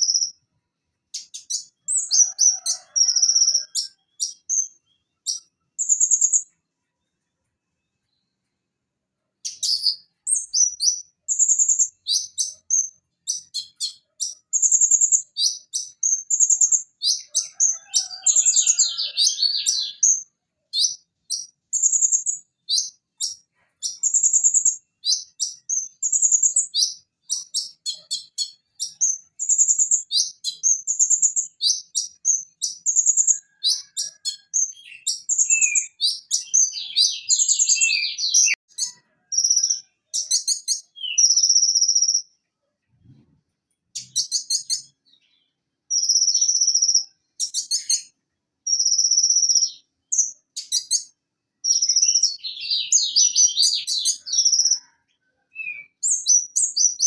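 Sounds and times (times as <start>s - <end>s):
bird chirping and trilling: 1.1s - 6.6s, 9.4s - 42.3s, 44.0s - 48.1s, 48.7s - 54.9s, 55.5s - 57.0s.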